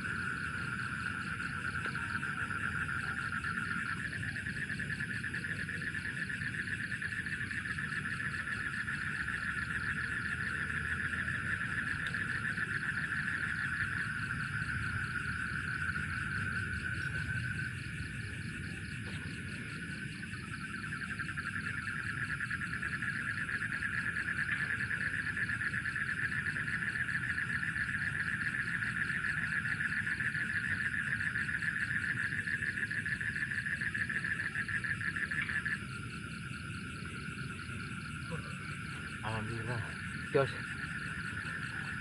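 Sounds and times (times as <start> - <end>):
night insects trilling: 0.0 - 42.0.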